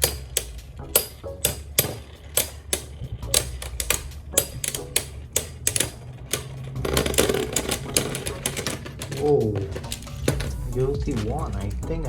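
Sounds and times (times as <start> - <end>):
spinning tops clacking: 0.0 - 11.9.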